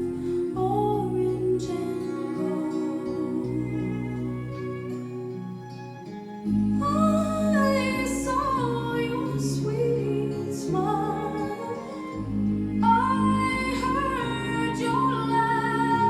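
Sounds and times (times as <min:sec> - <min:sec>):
woman singing: 0:00.0 - 0:05.2, 0:06.5 - 0:16.0.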